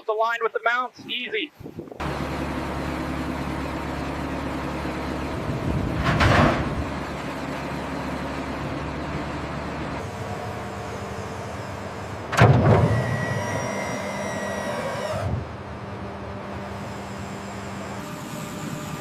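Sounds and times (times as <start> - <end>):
crane engine droning: 2.0 - 19.0.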